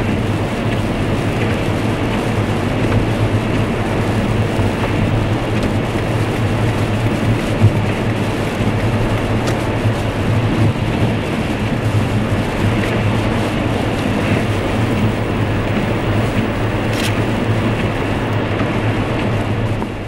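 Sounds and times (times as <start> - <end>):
low car drone: 0.0 - 20.0
tyres hissing on wet road: 0.0 - 20.0.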